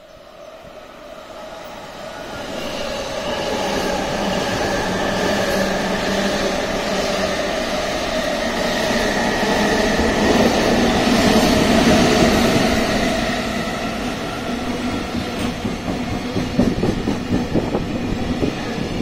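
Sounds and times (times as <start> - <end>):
electric locomotive passing: 0.1 - 19.0.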